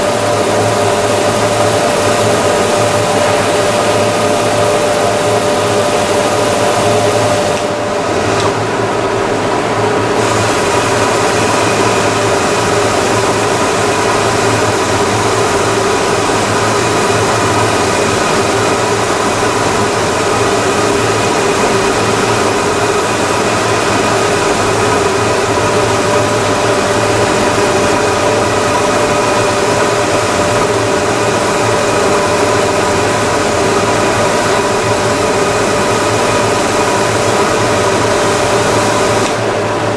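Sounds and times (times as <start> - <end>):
wood sanding machine whine and hiss: 0.0 - 9.0, 9.7 - 39.9.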